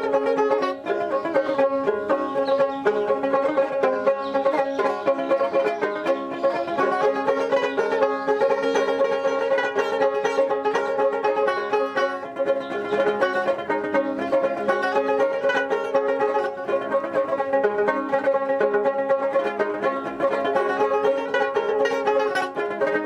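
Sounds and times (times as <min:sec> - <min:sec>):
droning strings: 0:00.0 - 0:23.0
plucked lute notes: 0:00.0 - 0:23.0.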